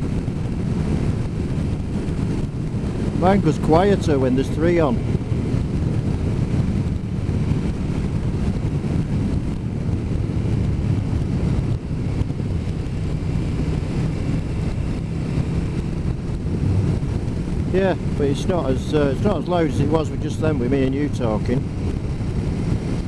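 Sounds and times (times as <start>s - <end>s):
motorcycle engine drone: 0.0s - 23.0s
wind rushing over microphone: 0.0s - 23.0s.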